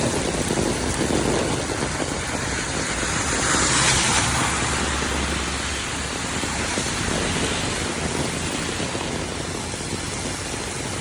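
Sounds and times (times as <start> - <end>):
car passing on wet road: 0.0 - 11.0
heavy rain: 0.0 - 11.0.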